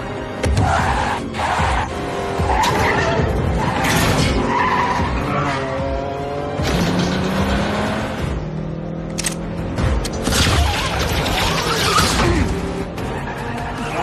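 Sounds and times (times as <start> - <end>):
car engines running hard: 0.0 - 14.0
film music score: 0.0 - 14.0.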